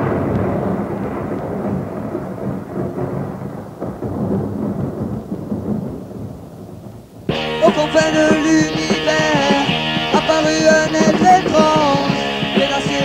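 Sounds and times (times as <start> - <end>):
rumbling thunder: 0.0 - 13.0.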